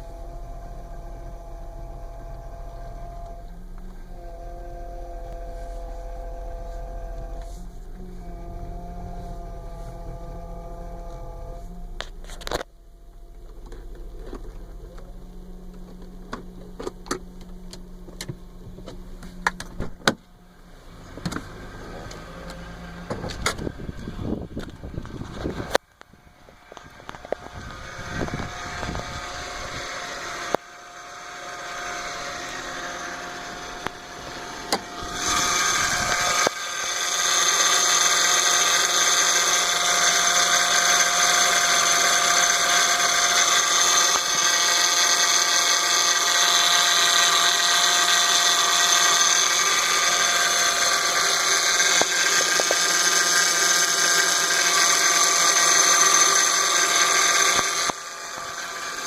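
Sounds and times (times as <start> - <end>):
power steering pump whining: 0.0 - 59.0.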